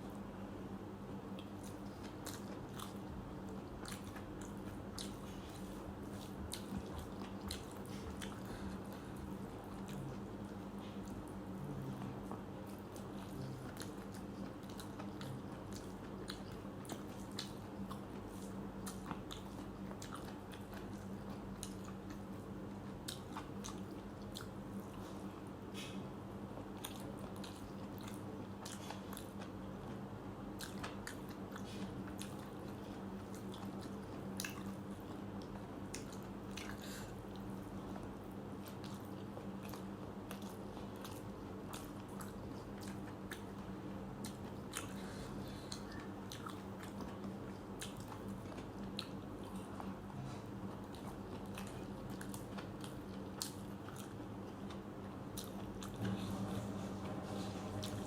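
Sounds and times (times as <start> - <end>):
steady low hum: 0.0 - 58.0
person chewing with mouth clicks: 1.3 - 58.0.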